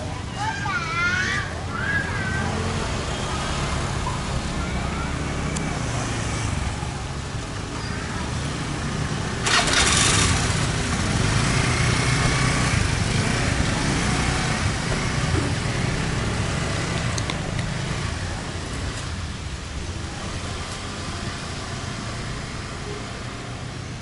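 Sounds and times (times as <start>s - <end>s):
loud rush of noise: 0.0s - 24.0s
scooter engines idling: 1.6s - 24.0s.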